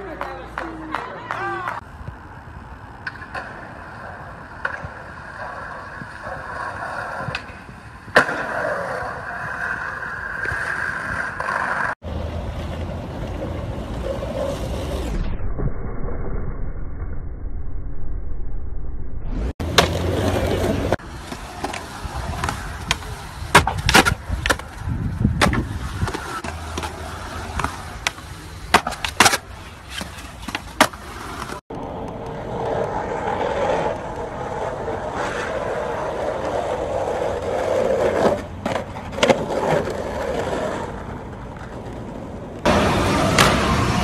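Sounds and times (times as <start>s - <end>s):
skateboards clacking on ground: 0.0s - 1.9s, 2.9s - 12.0s, 19.6s - 44.0s
skateboards rolling on concrete: 0.0s - 15.2s, 19.4s - 44.0s.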